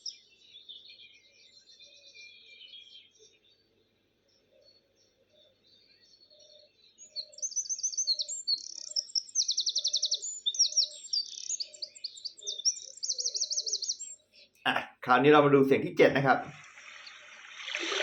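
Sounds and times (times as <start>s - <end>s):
birdsong from small speaker: 0.0s - 18.0s.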